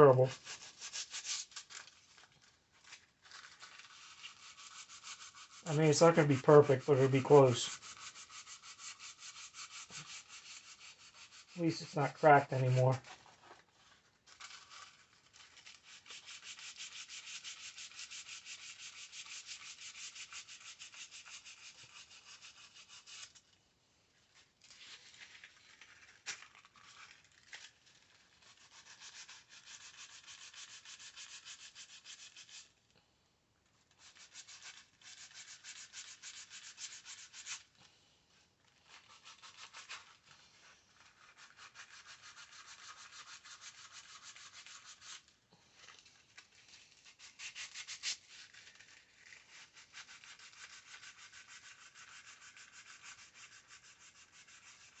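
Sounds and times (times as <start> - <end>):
sandpaper rubbing back and forth: 0.0 - 2.0, 3.4 - 13.2, 14.4 - 23.4, 27.9 - 32.7, 33.9 - 37.7, 38.9 - 45.3, 46.6 - 55.0.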